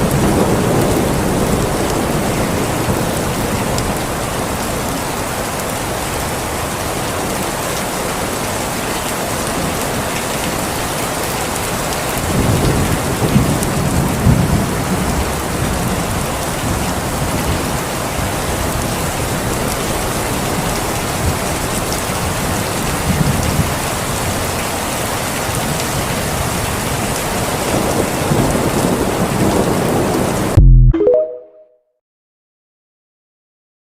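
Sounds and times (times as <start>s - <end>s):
steady rain falling: 0.0s - 30.6s.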